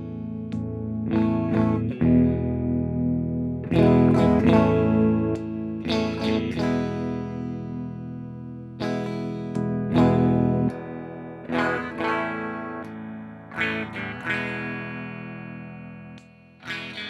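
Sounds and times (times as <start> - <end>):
electric guitar chords ringing: 0.0 - 17.0.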